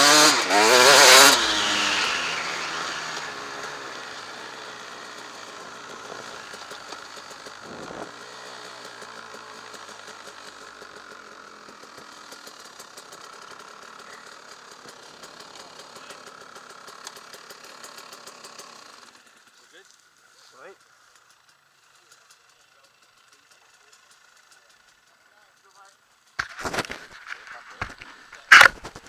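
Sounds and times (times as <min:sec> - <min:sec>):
motorcycle engine idling: 0:01.2 - 0:29.0.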